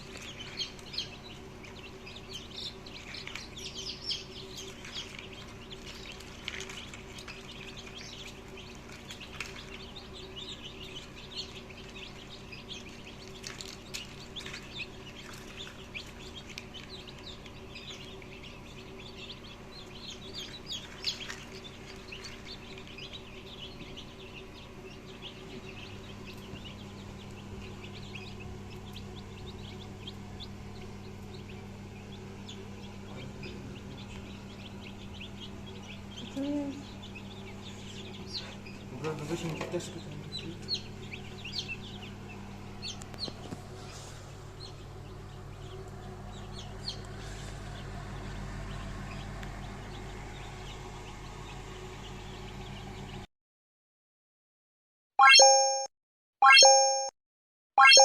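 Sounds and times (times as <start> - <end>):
chicks peeping: 0.0 - 53.3.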